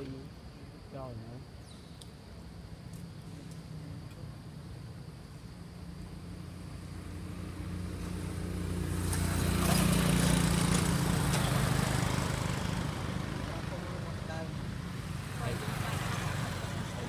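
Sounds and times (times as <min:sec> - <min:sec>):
vehicle engine hum: 0:02.4 - 0:17.0.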